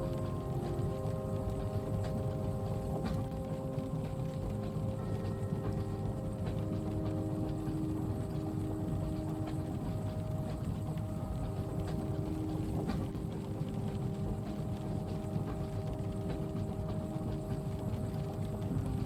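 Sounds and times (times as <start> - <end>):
faint humming tones: 0.0 - 19.0
train carriage rumble: 0.0 - 19.0.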